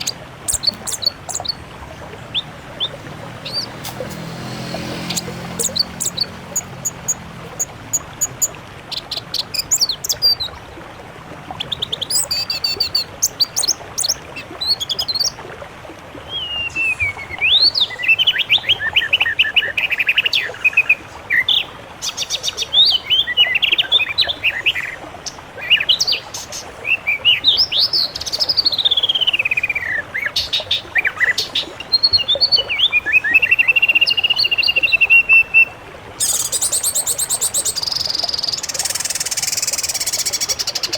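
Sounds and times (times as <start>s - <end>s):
songbirds singing: 0.0s - 10.6s, 11.6s - 15.4s, 16.2s - 40.9s.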